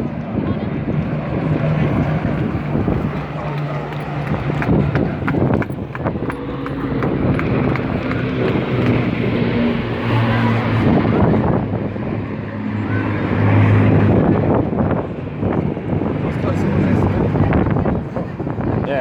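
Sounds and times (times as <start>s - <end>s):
propeller aircraft droning overhead: 0.0s - 19.0s.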